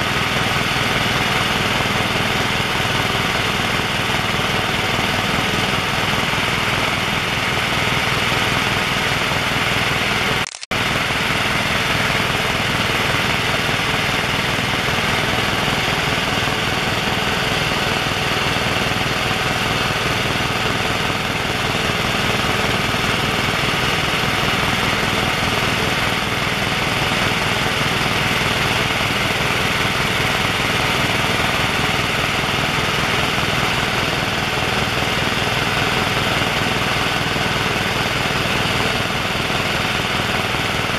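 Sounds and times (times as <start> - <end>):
helicopter turbine and rotor drone: 0.0 - 40.9.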